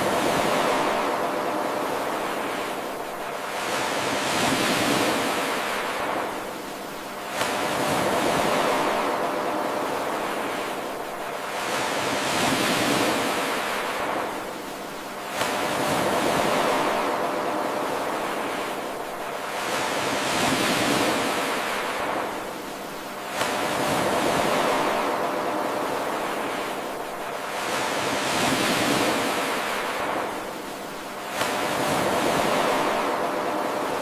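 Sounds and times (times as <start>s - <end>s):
ocean waves washing in: 0.0s - 34.0s.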